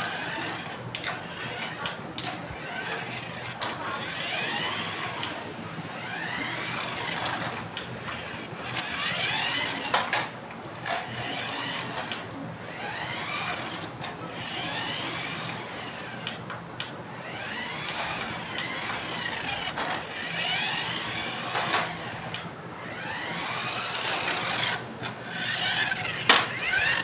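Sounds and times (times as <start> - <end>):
toy car electric motor whining: 0.0 - 16.5, 17.1 - 27.0.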